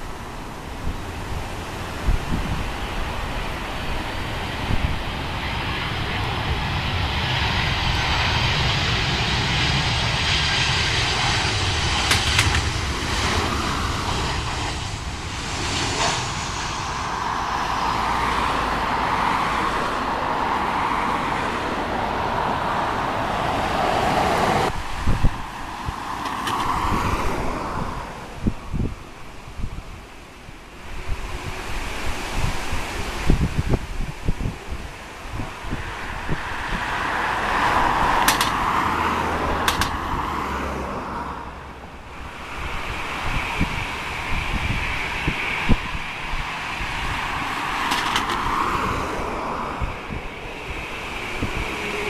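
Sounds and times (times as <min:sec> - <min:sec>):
jet airliner engine whine: 0:00.0 - 0:52.0.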